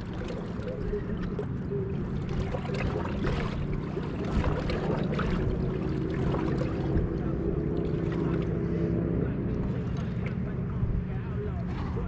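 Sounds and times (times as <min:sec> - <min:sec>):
small boat motor running: 0:00.0 - 0:12.0
water lapping against hull: 0:00.0 - 0:12.0.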